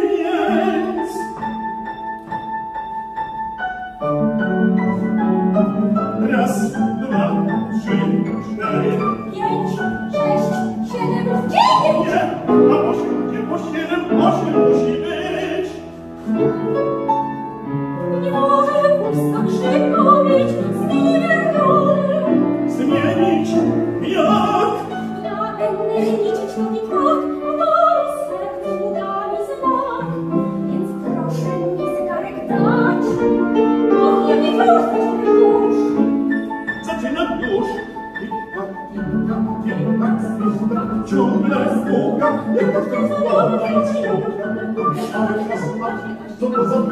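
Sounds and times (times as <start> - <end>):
soprano singing with vibrato: 0.0 - 1.8, 6.2 - 15.9, 17.9 - 46.9
grand piano accompaniment: 0.0 - 46.9.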